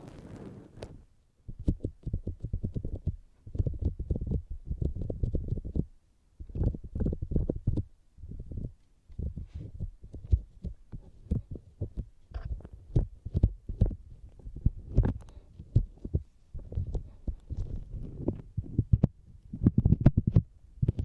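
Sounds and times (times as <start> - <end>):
fingertips tapping on microphone: 0.0 - 21.0.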